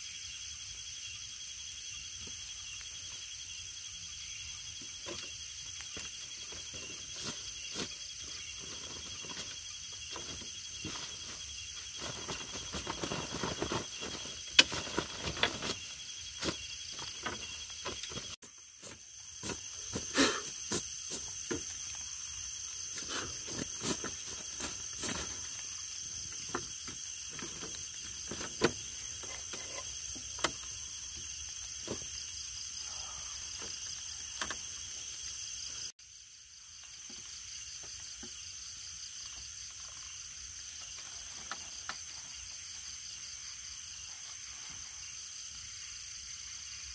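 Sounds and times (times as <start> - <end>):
insects singing: 0.0 - 46.9.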